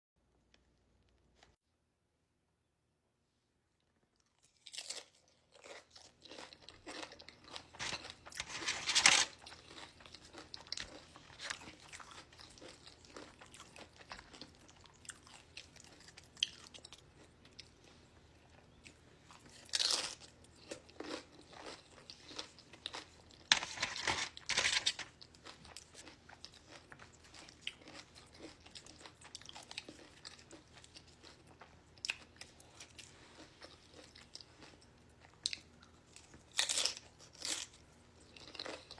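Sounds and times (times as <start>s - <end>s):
chewing and crunching chips: 3.8s - 38.9s.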